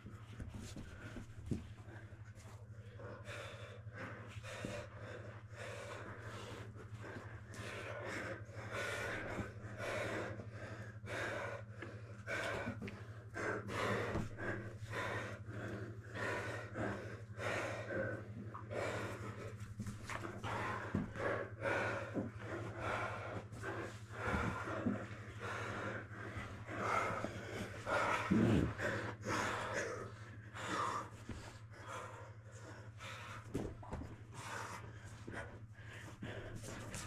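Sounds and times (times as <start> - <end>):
steady low hum: 0.0 - 37.0
heavy fast breathing and gasping: 0.1 - 37.0.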